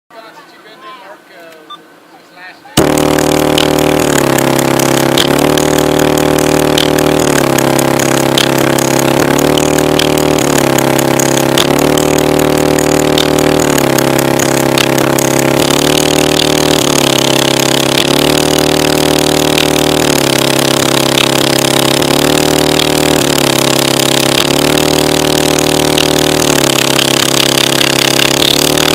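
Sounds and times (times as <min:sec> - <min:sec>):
car engine revving: 0:02.8 - 0:28.9.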